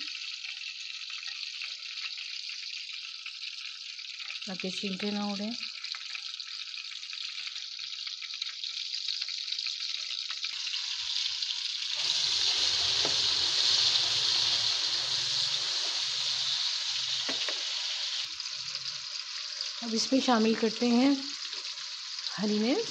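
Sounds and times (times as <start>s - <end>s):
onion and tomato sizzling in oil: 0.0s - 22.9s.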